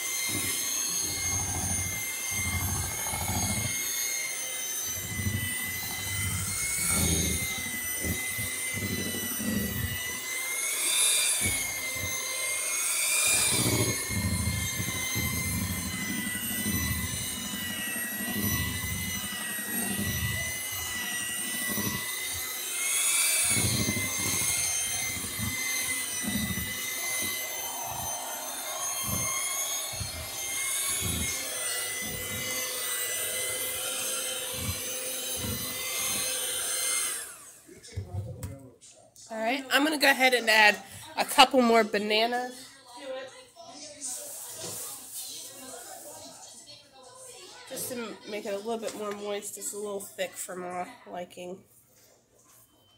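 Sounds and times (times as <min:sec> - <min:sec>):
electric hand mixer whining: 0:00.0 - 0:38.6, 0:39.3 - 0:51.6.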